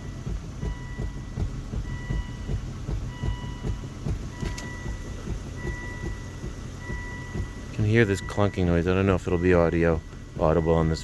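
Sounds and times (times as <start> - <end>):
beeping tone: 0.0 - 11.0.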